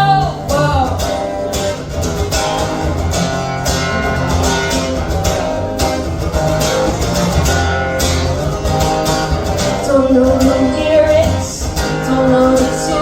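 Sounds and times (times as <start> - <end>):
bass: 0.0 - 13.0
strummed guitar: 0.0 - 13.0.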